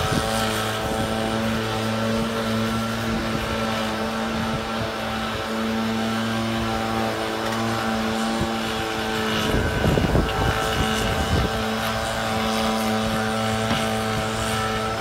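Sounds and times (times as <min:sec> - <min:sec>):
leaf blower engine running: 0:00.0 - 0:15.0.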